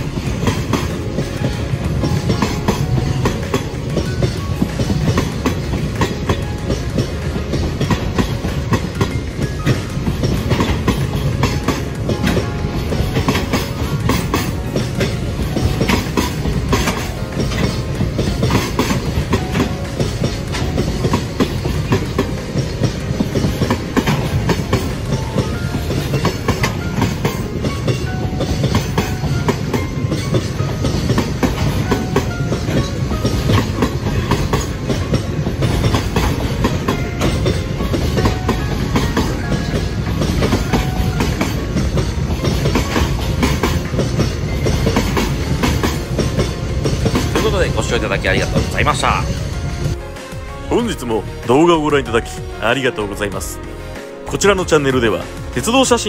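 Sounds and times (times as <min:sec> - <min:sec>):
train wheels clacking over rail joints: 0:00.0 - 0:50.5.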